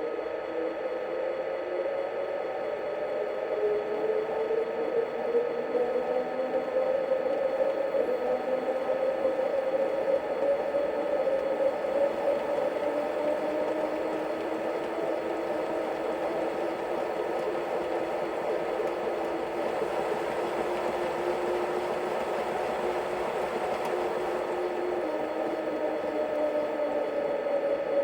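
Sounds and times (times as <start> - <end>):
model locomotive running hum: 0.0 - 28.0.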